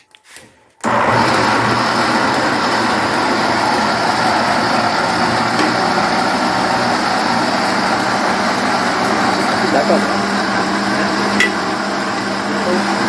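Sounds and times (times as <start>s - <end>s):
electric blender grinding: 0.8s - 13.0s.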